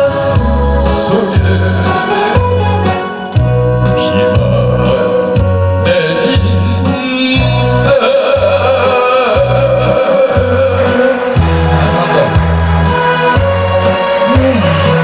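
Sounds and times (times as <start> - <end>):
man singing into a microphone: 0.0 - 3.2, 3.8 - 12.5, 14.2 - 15.0
backing track with bass and drums: 0.0 - 15.0.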